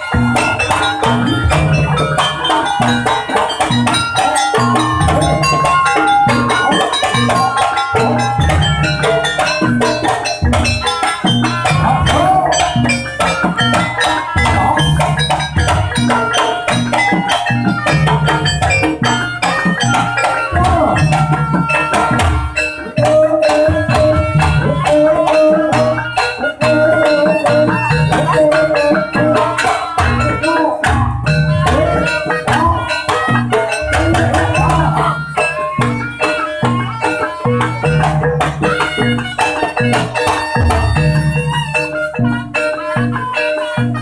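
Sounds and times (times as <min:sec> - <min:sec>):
drums and struck percussion beat: 0:00.0 - 0:44.0
melody line: 0:00.0 - 0:44.0.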